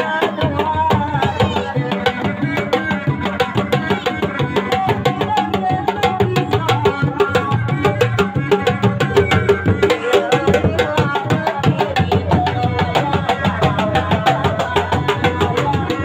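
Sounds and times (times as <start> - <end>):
drums in fast rhythm: 0.0 - 16.0.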